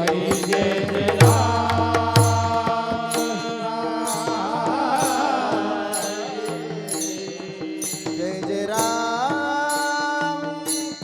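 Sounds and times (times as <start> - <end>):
held instrumental tones: 0.0 - 9.0
person singing wavering melody: 0.0 - 11.0.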